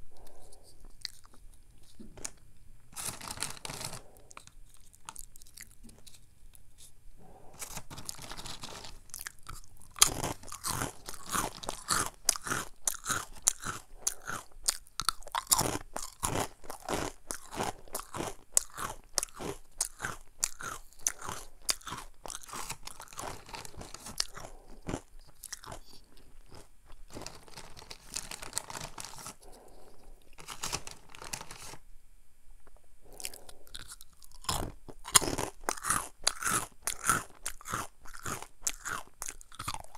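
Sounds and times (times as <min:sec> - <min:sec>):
crunchy snack being chewed: 0:00.1 - 0:31.8, 0:33.0 - 0:39.9.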